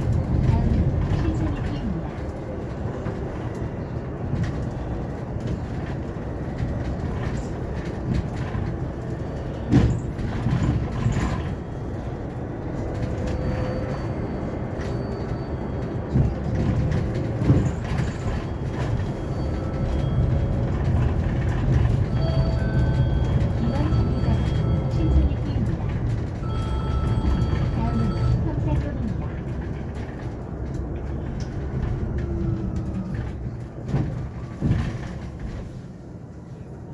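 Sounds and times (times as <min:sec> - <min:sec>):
rattles and knocks: 0:00.0 - 0:35.8
bus road rumble: 0:00.0 - 0:36.9.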